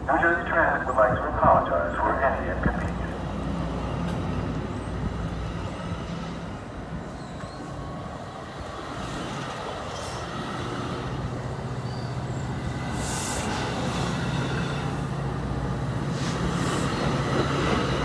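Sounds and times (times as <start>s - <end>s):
train wheels rumbling on rails: 0.9s - 18.0s.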